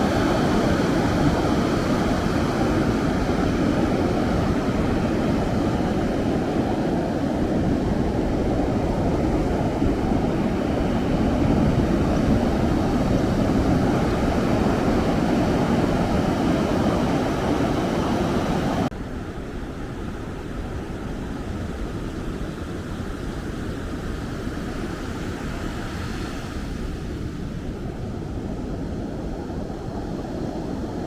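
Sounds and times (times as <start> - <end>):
wind: 0.0 - 31.0.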